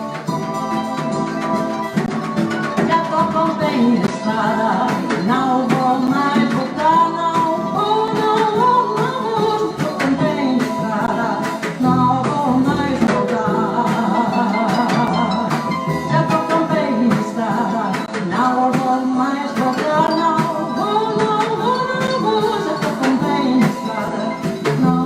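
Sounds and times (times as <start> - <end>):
small jazz band with harp: 0.0 - 25.0
person singing: 2.7 - 25.0.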